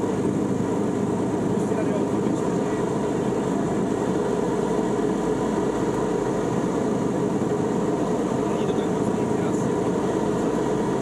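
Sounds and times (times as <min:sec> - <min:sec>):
faint steady whine: 0:00.0 - 0:11.0
motorglider engine drone: 0:00.0 - 0:11.0.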